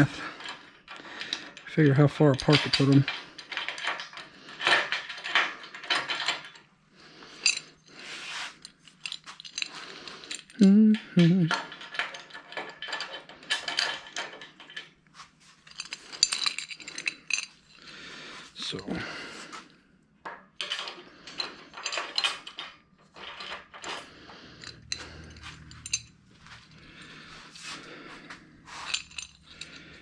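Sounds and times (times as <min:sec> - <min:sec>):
small metal parts clinking: 0:00.0 - 0:17.9, 0:20.2 - 0:27.7, 0:28.4 - 0:30.0.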